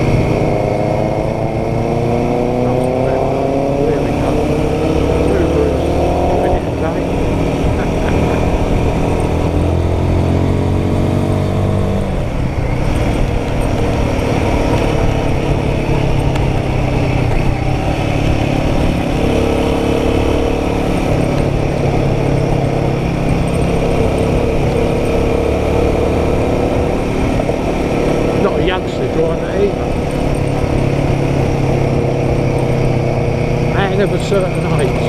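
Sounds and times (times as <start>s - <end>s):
motorcycle engine accelerating: 0.0s - 35.0s
wind and road noise: 0.0s - 35.0s.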